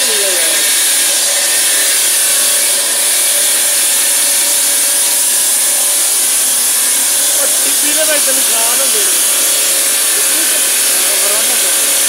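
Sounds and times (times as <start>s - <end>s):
stone saw grinding hiss: 0.0s - 12.0s.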